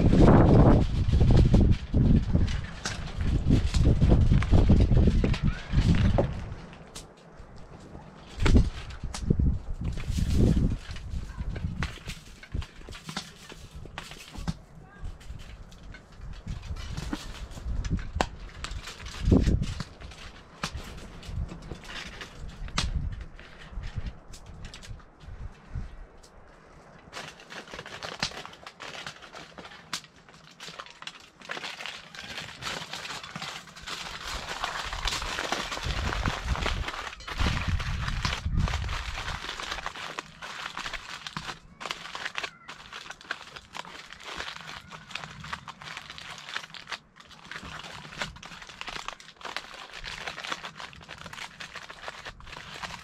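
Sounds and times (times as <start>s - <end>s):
aluminium foil crinkling: 0.0s - 25.4s, 26.9s - 53.0s.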